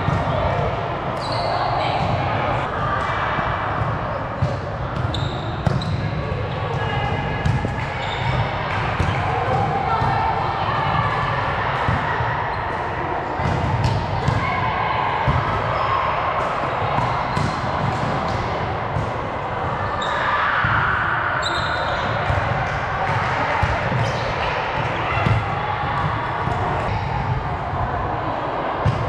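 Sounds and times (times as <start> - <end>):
players' voices echoing: 0.0 - 29.0.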